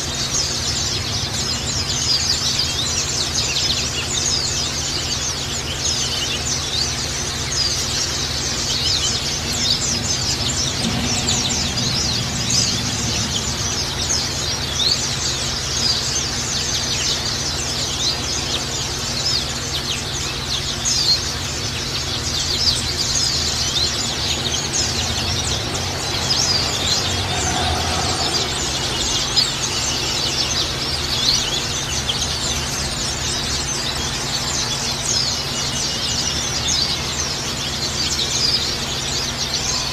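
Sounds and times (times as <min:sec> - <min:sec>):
steady low hum: 0:00.0 - 0:39.7
flock of birds chirping: 0:00.0 - 0:39.9.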